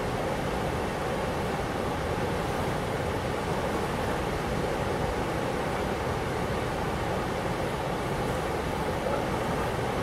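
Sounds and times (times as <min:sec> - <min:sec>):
river rapids rushing over rocks: 0:00.0 - 0:10.0.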